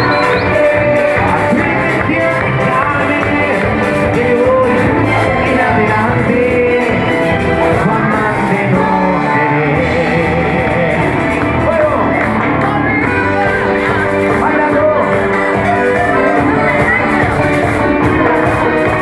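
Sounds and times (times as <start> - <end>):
drum kit: 0.0 - 19.0
live band playing: 0.0 - 19.0
man singing: 0.0 - 19.0.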